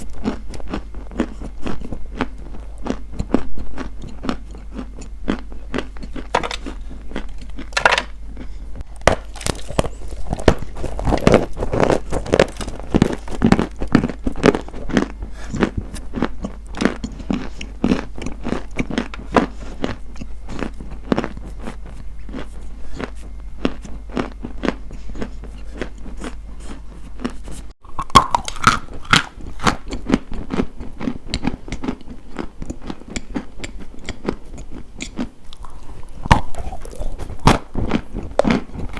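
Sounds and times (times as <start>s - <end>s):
crunchy food chewing: 0.0s - 38.9s.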